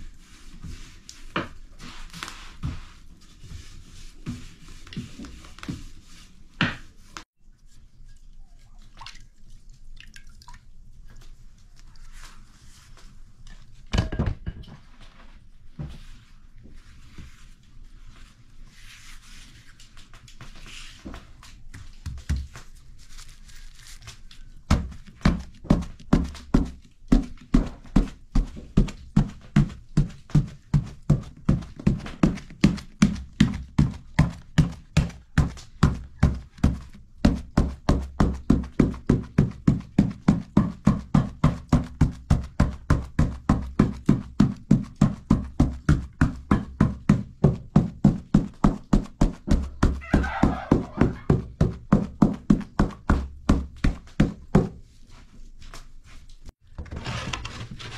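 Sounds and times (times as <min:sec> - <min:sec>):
hands rubbing floured dough: 0:00.0 - 0:08.8, 0:11.5 - 0:13.8, 0:14.9 - 0:56.6.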